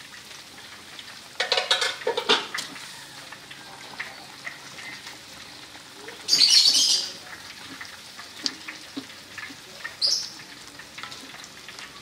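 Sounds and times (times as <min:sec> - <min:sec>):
broth simmering in a wok: 0:00.0 - 0:12.0.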